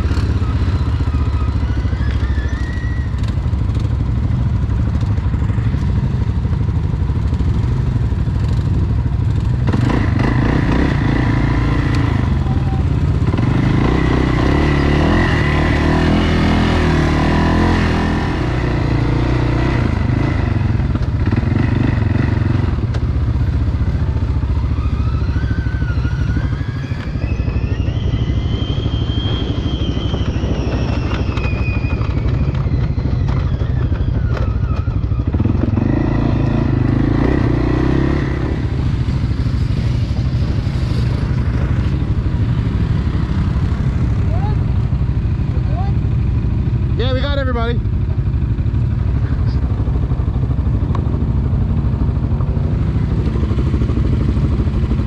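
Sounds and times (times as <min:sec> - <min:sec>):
atv engine running: 0:00.0 - 0:55.0
engine whine: 0:00.0 - 0:55.0.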